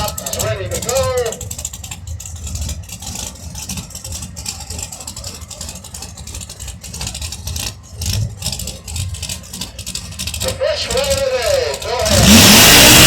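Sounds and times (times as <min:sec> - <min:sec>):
racing engine rumbling and crackling: 0:00.0 - 0:13.0.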